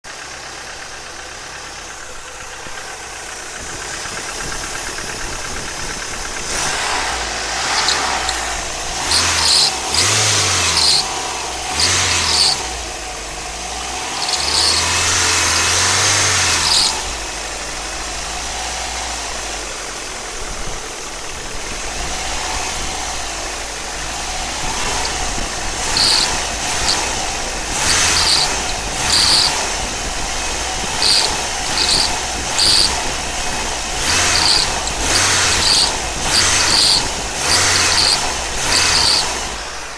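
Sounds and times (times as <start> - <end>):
car engine revving: 0.1 - 39.9.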